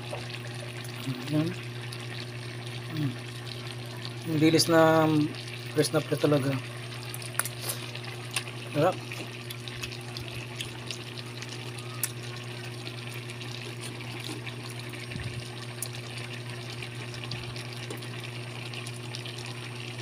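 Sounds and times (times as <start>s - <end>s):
liquid bubbling in a pan: 0.0s - 20.0s.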